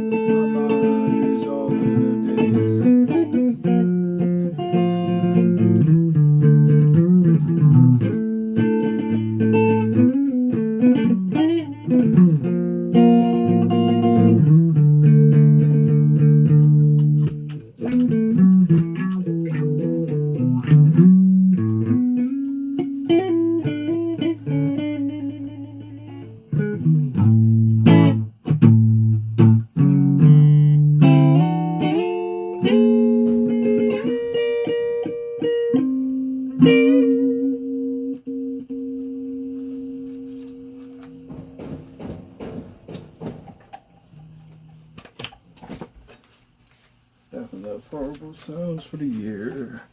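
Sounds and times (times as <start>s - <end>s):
guitar playing: 0.0s - 45.3s.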